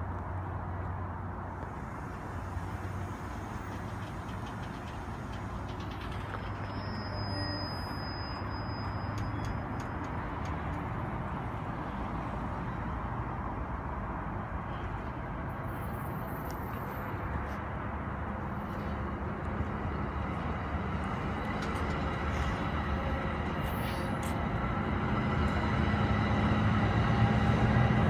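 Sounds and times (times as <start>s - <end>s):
train wheels rumbling on rails: 1.5s - 12.3s, 15.4s - 28.0s.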